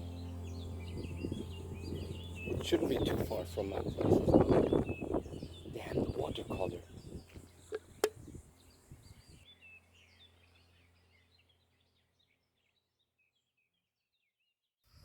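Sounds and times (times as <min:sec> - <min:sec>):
small birds chirping faintly: 0:00.0 - 0:14.3.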